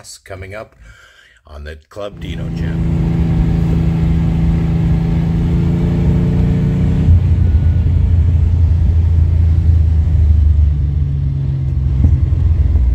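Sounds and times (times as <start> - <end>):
car engine running: 2.1 - 12.9.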